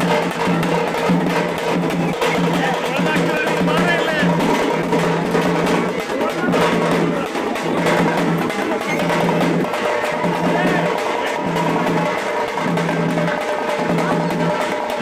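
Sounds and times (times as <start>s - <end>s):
fast dense drumming: 0.0s - 15.0s.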